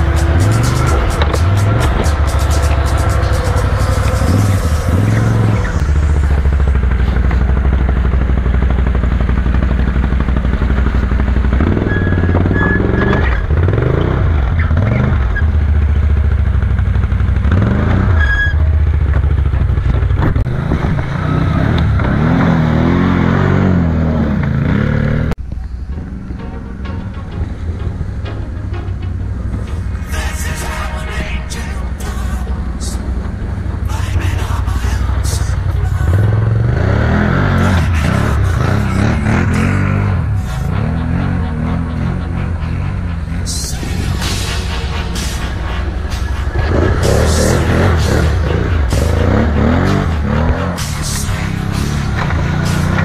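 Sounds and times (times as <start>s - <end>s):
atv engine revving: 0.0s - 25.4s, 27.3s - 53.0s.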